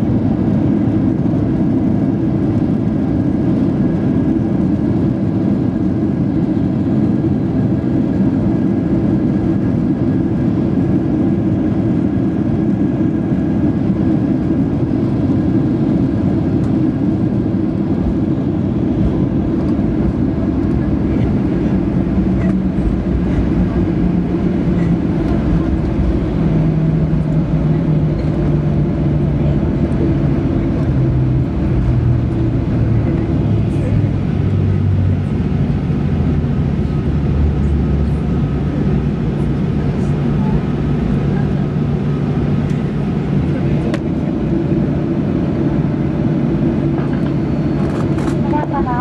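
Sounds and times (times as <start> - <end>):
airliner wheels and engines rumbling: 0.0 - 49.0.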